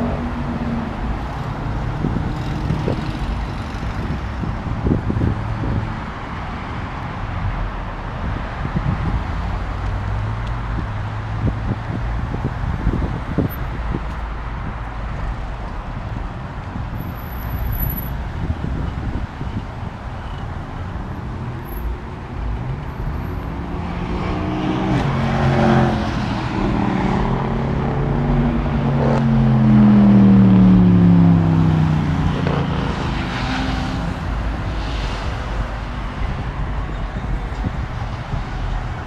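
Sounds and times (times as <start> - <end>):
cars driving past revving: 0.0 - 7.7, 8.3 - 39.0.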